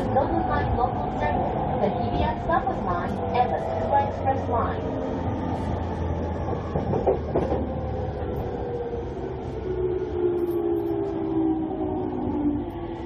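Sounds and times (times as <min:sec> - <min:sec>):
electric train inverter whine: 0:00.0 - 0:13.0
low train rumble: 0:00.0 - 0:13.0.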